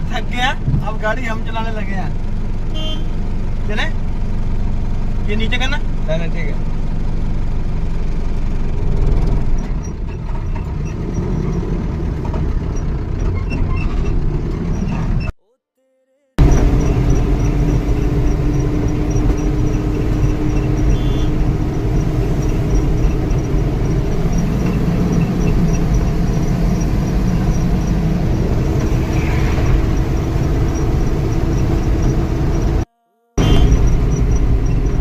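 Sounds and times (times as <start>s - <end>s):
truck engine and road noise: 0.0s - 15.4s, 16.4s - 35.0s.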